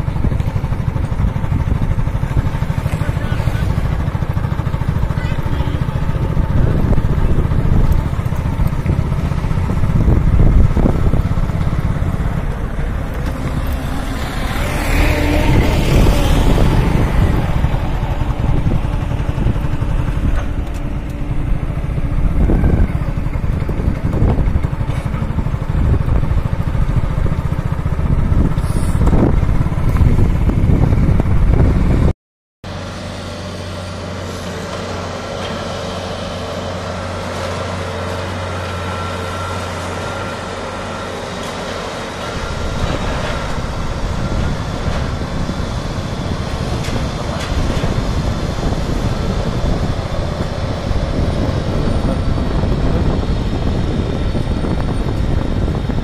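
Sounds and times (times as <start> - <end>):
heavy machinery engines rumbling: 0.0 - 32.1, 32.7 - 56.0.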